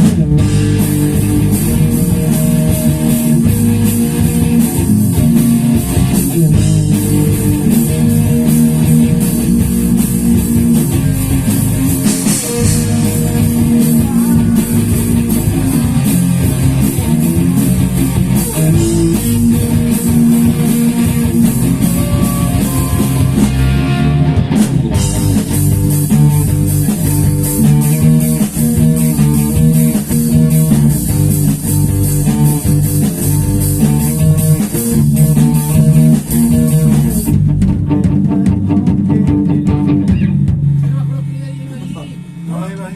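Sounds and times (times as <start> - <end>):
instrumental rock music: 0.0 - 42.5.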